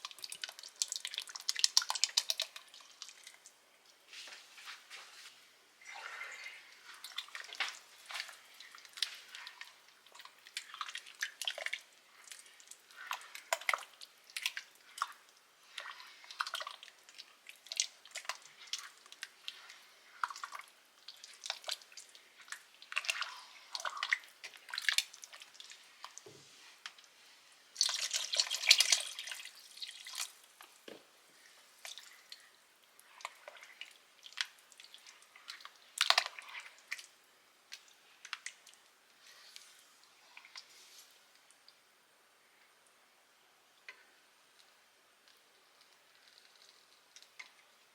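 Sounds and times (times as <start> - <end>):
water dripping and splashing: 0.0 - 3.6, 5.8 - 27.1, 27.8 - 41.8.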